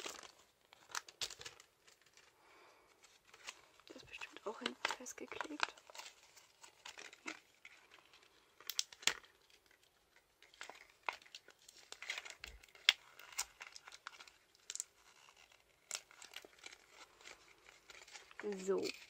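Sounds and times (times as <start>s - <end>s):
paper crinkling and tearing: 0.0s - 19.0s.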